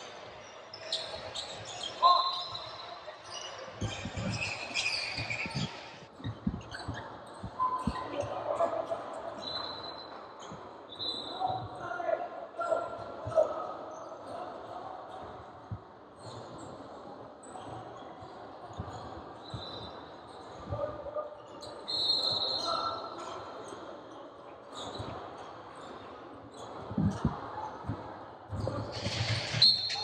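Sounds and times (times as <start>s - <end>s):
voices echoing in a gym: 0.0s - 30.0s.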